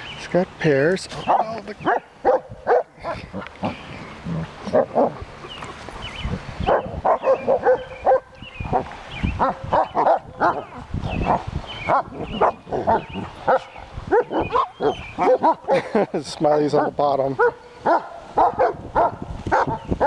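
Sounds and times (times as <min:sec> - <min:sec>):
dogs barking and squealing: 0:01.2 - 0:05.6, 0:06.6 - 0:20.0.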